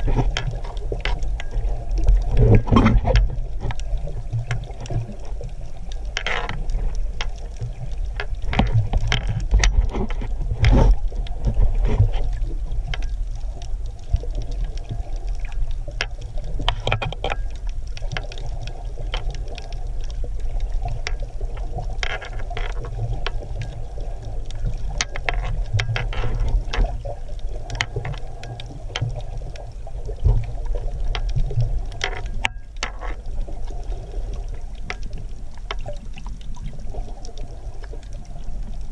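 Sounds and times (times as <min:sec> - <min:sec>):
underwater clicks and crackles: 0:00.0 - 0:38.9
underwater moving water rumble: 0:00.0 - 0:38.9.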